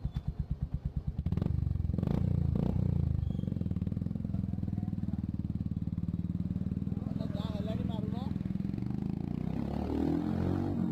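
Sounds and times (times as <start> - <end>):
motorcycle engine idling and revving: 0.0 - 10.9.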